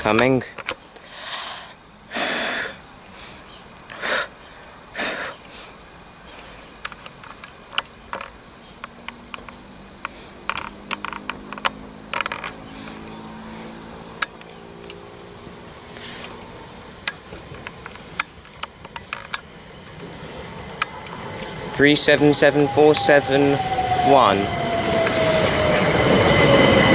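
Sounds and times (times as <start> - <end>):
electric train drive whine: 0.0 - 26.9.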